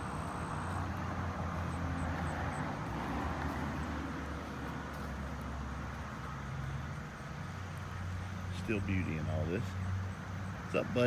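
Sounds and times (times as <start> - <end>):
generator engine humming: 0.0 - 11.0.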